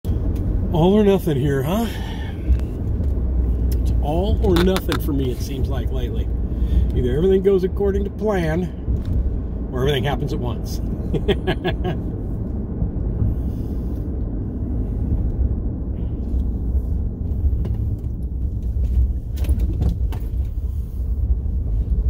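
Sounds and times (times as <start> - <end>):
car driving rumble: 0.1 - 22.0.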